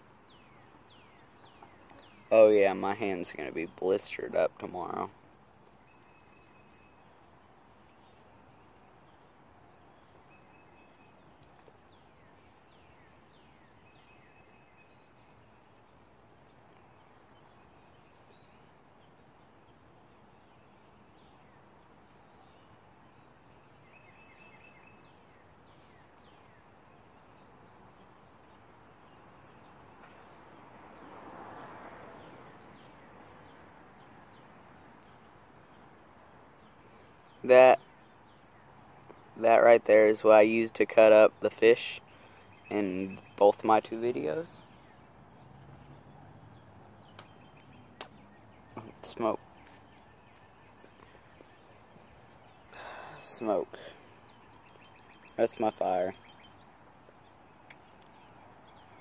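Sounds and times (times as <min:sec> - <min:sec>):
faint bird trills and chirps: 0:00.0 - 0:59.0.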